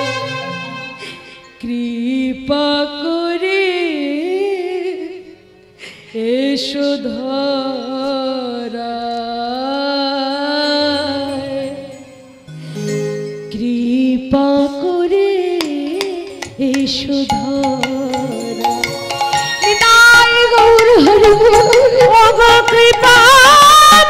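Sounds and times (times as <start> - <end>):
devotional music: 0.0 - 24.0.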